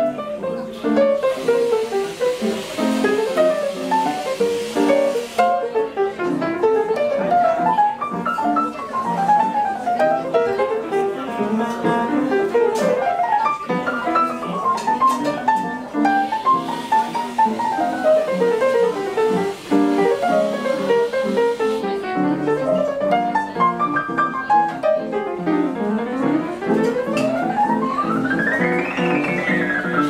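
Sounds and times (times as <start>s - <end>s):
solo piano: 0.0s - 30.0s.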